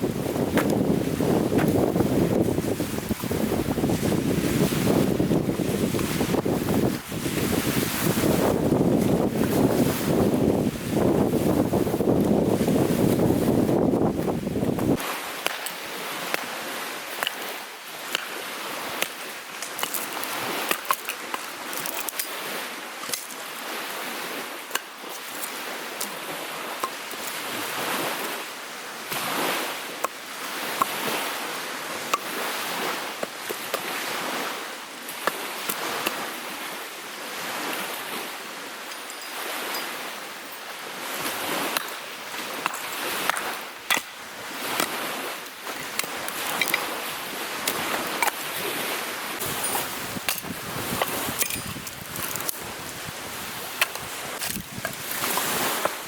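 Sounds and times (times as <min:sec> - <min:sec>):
small waves lapping: 0:00.0 - 0:56.0.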